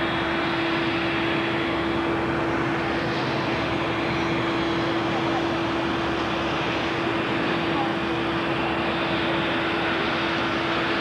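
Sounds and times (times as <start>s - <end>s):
airplane engine noise: 0.0s - 11.0s.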